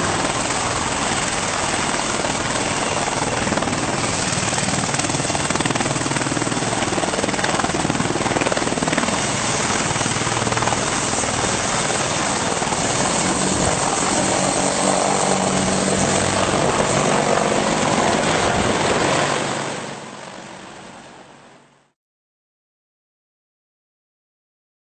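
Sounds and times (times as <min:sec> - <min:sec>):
helicopter rotor and engine drone: 0:00.0 - 0:21.8.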